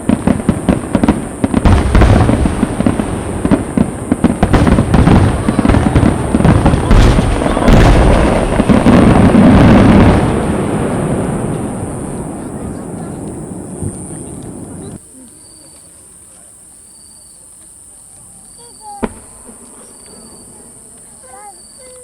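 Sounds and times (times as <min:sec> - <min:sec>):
fireworks booming and crackling: 0:00.0 - 0:15.0, 0:18.8 - 0:22.0.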